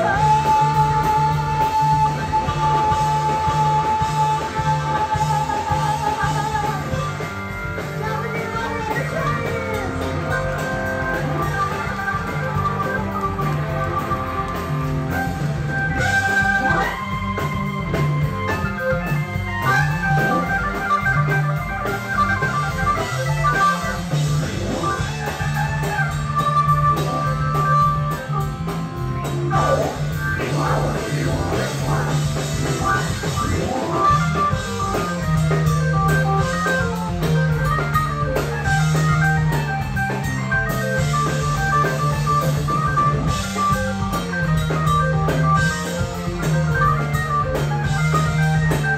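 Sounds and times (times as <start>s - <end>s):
organ-toned keyboard lead: 0.0s - 48.9s
rock band playing: 0.0s - 48.9s.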